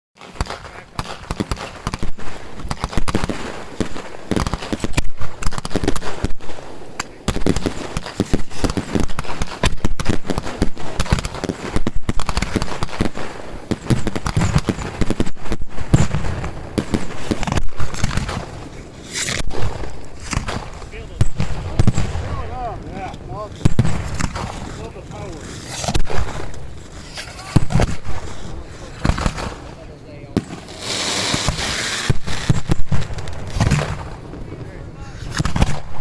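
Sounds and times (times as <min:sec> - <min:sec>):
fireworks crackling and popping: 0:00.2 - 0:36.0.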